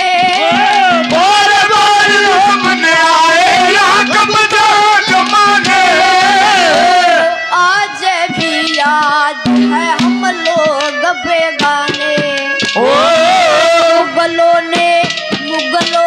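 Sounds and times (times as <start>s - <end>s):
drum strokes: 0.0s - 16.0s
instrumental accompaniment: 0.0s - 16.0s
person singing folk song: 0.0s - 16.0s.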